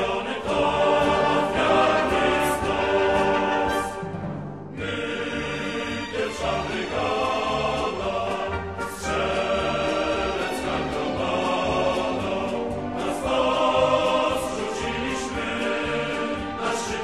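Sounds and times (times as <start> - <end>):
choir singing sustained chords: 0.0 - 17.0
orchestral backing: 0.0 - 17.0.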